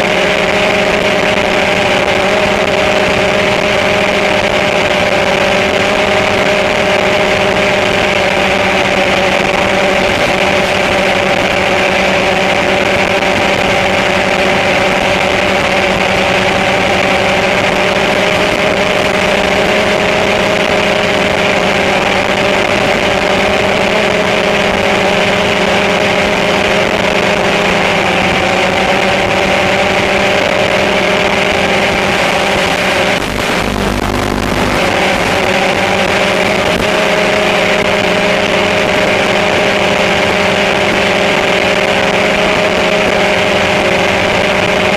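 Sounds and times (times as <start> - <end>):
drone motors whining: 0.0 - 44.9.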